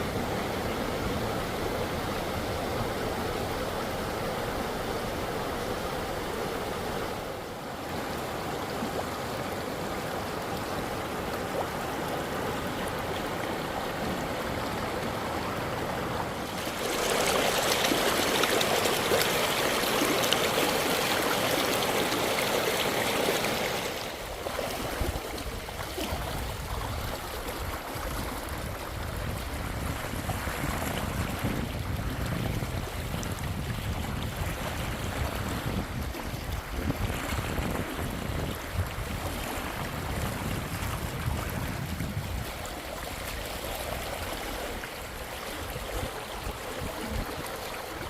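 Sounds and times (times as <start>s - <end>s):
rushing floodwater: 0.0s - 48.0s.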